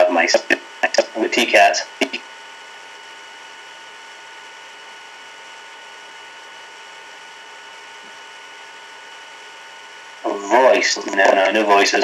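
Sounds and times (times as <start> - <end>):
faint high-pitched whine: 0.0 - 12.0
steady background hiss: 0.0 - 12.0.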